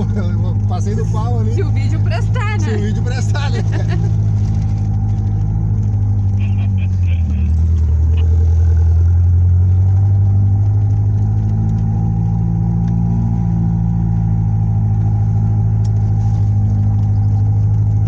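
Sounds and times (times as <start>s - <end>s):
dune buggy engine droning: 0.0s - 18.0s.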